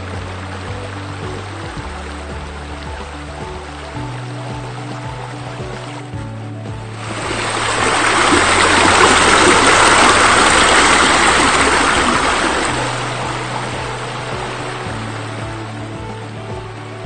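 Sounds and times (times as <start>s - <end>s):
quiet background music: 0.0s - 17.0s
water rushing and splashing: 0.0s - 17.0s.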